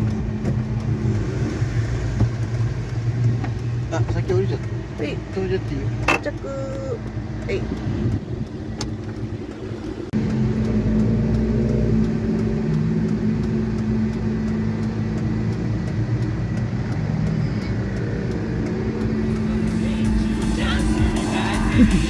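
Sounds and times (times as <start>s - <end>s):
car engine humming: 0.0s - 22.0s.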